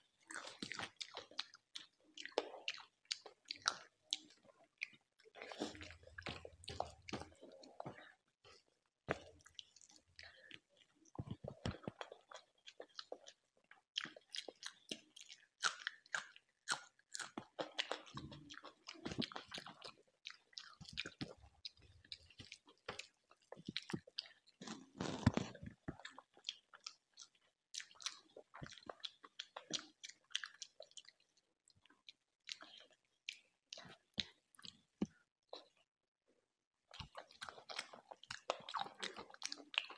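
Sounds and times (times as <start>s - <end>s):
man chewing food: 0.0s - 35.8s, 36.9s - 39.9s.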